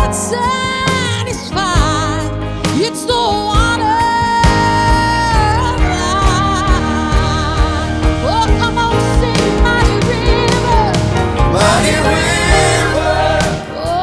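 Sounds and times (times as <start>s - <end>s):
worship band playing: 0.0s - 14.0s.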